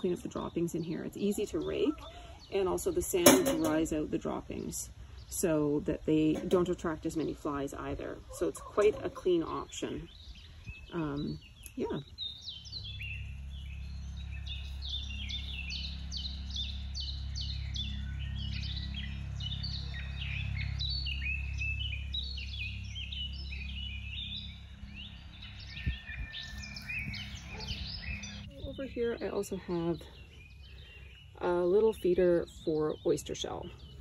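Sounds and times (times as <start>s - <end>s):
birds chirping: 0.0s - 34.0s
steady low hum: 0.0s - 34.0s.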